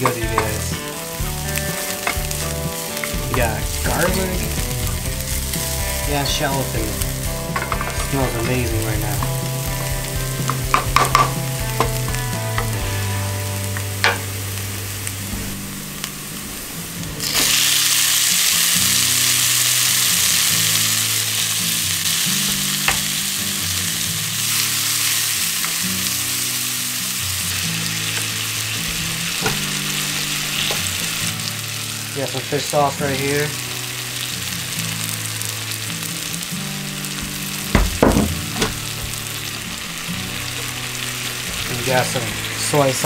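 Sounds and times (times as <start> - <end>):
food sizzling in oil in a pan: 0.0 - 43.0.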